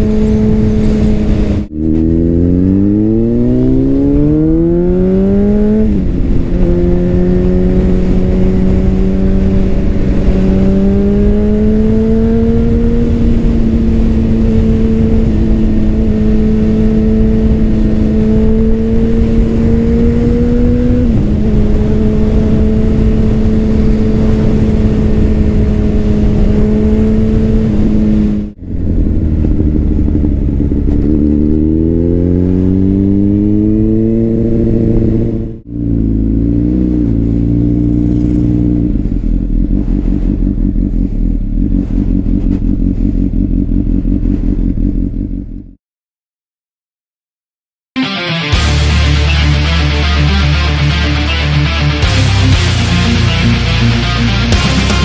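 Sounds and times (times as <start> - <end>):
motorcycle engine revving: 0.0 - 45.8, 48.4 - 55.0.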